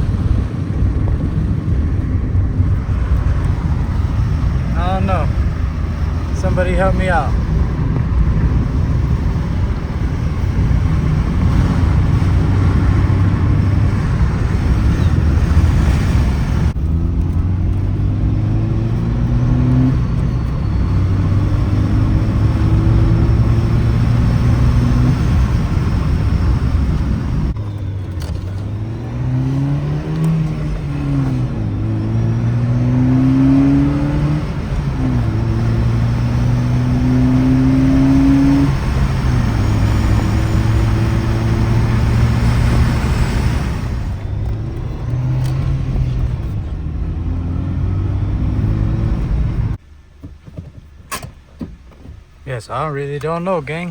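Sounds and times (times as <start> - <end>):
car engine accelerating hard: 0.0 - 49.8
road and wind noise: 0.0 - 53.9.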